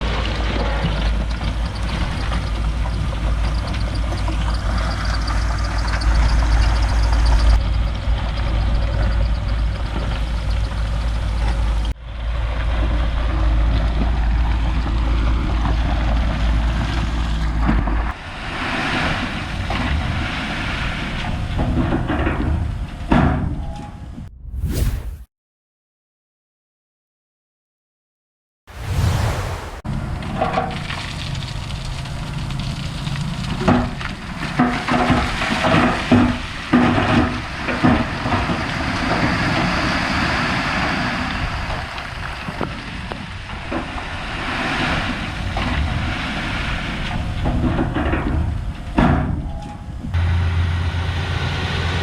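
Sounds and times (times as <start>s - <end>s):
heavy machinery engine drone: 0.0s - 24.4s, 29.0s - 52.0s.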